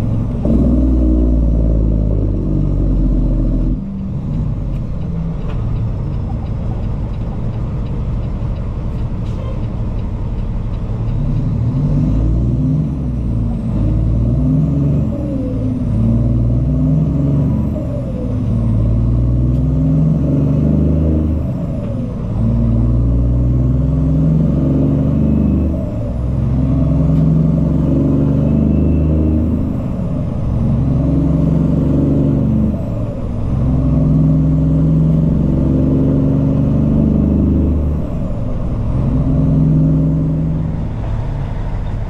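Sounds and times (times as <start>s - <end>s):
diesel truck engine under load: 0.0s - 42.0s.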